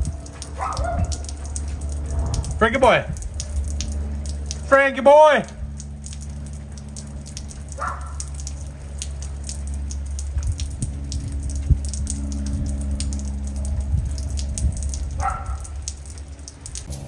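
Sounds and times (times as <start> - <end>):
low rumble: 0.0 - 17.0
rain drops tapping: 0.0 - 17.0.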